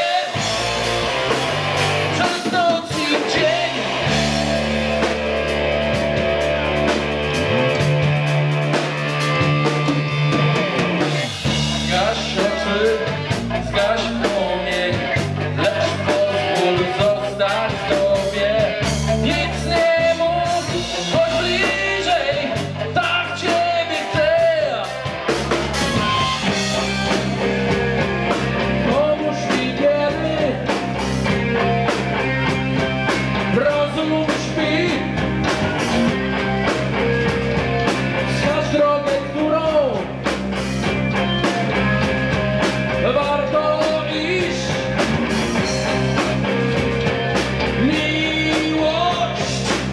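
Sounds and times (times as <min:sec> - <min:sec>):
hard rock band playing: 0:00.0 - 0:49.9.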